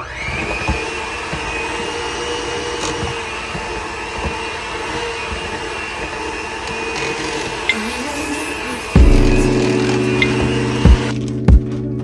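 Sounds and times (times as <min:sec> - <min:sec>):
electric hand mixer whining: 0:00.0 - 0:11.2.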